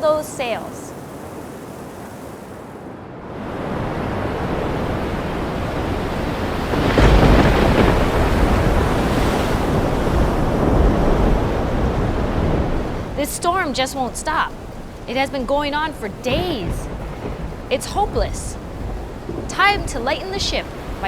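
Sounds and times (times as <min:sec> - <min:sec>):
rushing wind: 0:00.0 - 0:21.0
sea waves crashing: 0:00.0 - 0:21.0.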